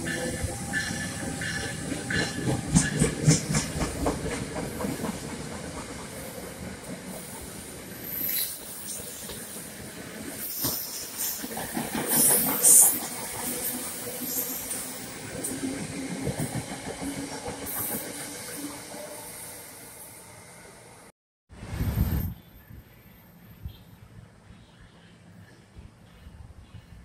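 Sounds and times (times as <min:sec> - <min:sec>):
train passing: 0:00.0 - 0:27.0.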